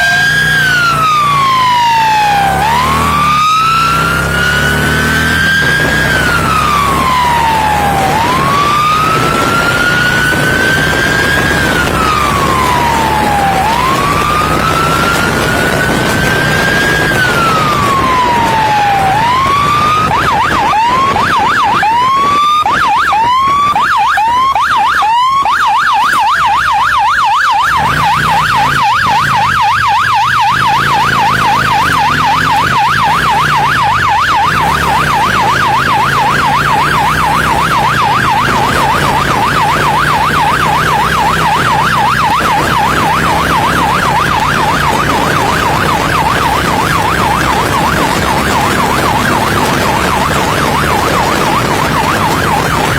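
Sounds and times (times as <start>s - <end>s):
engine running: 0.0s - 52.9s
police siren wailing and yelping: 0.0s - 52.9s.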